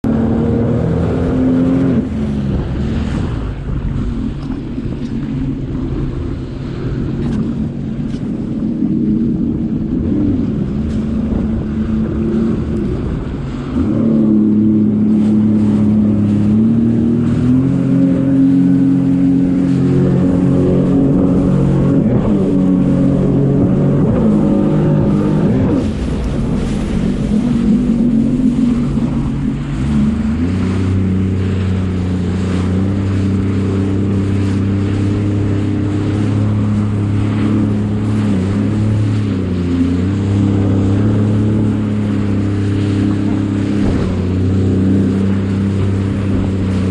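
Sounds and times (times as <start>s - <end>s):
jet ski engine running: 0.0s - 46.9s.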